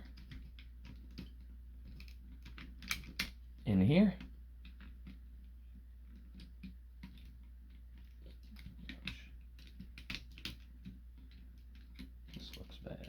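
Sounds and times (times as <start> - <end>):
plastic parts clicking and tapping: 0.0 - 3.6, 4.2 - 13.0.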